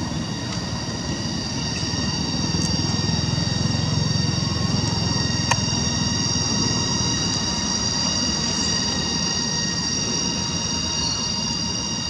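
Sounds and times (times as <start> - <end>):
cicadas calling: 0.0 - 12.0.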